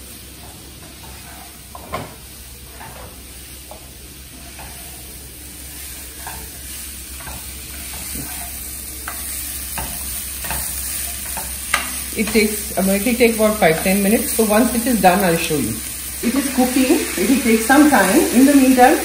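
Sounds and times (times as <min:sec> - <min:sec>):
spatula scraping and knocking wok: 0:00.0 - 0:19.0
vegetables sizzling in oil: 0:00.0 - 0:19.0.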